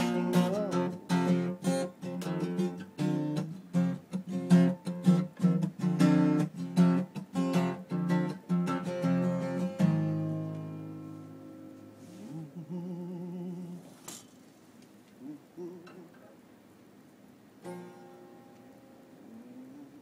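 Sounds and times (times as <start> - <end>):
acoustic guitar strumming: 0.0 - 14.4, 17.6 - 19.8.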